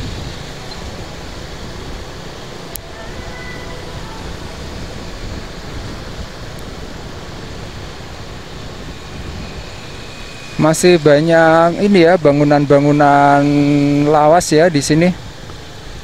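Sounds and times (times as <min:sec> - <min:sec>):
traffic and road noise: 0:00.0 - 0:16.0
wind rumbling on microphone: 0:00.0 - 0:16.0.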